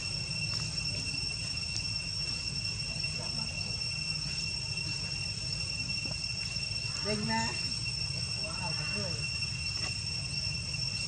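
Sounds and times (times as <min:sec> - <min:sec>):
insects shrilling: 0:00.0 - 0:11.0.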